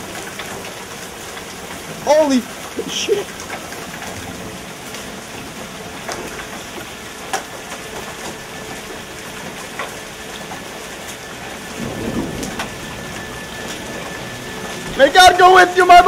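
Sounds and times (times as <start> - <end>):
hail and rain hissing: 0.0 - 16.0
hailstones clicking: 0.0 - 16.0.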